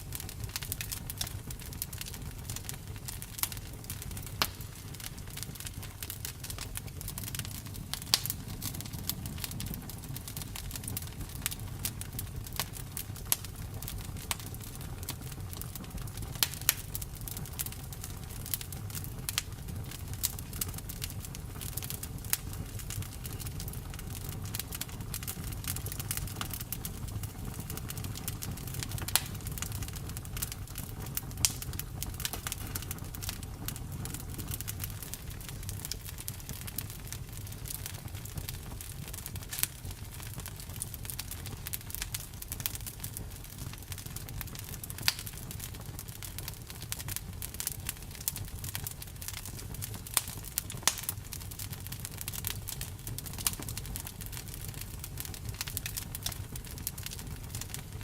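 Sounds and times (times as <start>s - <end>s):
flames rumbling: 0.0s - 58.0s.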